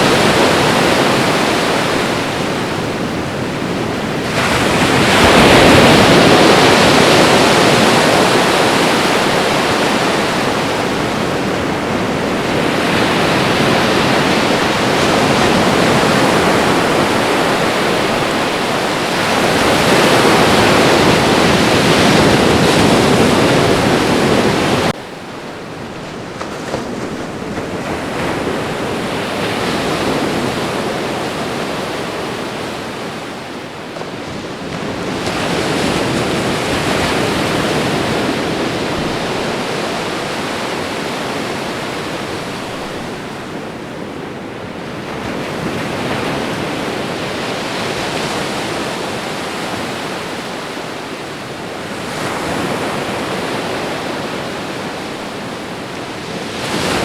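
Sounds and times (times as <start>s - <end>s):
ocean waves washing onto shore: 0.0s - 57.0s.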